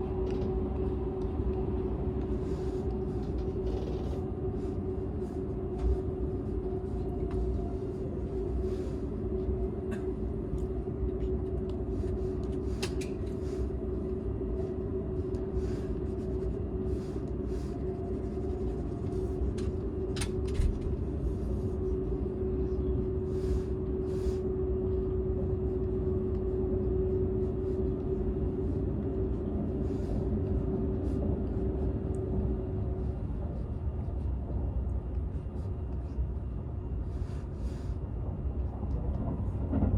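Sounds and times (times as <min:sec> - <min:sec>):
steady hum: 0:00.0 - 0:39.9
train running rumble: 0:00.0 - 0:39.9.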